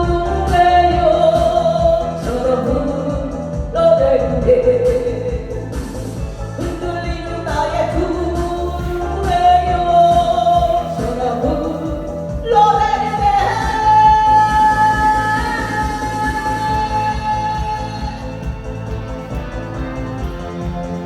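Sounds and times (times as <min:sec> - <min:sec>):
woman singing: 0:00.0 - 0:19.8
backing track with steady beat: 0:00.0 - 0:21.0.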